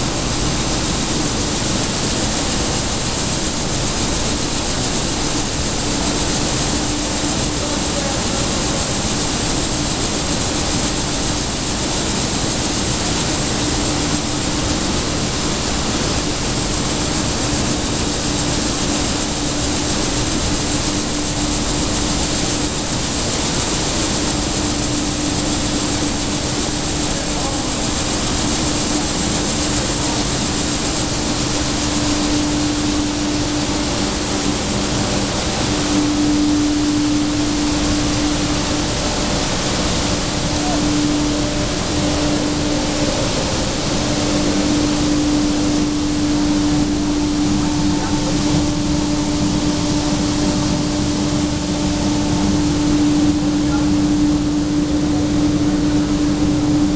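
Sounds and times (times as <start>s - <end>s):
machinery rushing and humming: 0.0s - 56.9s.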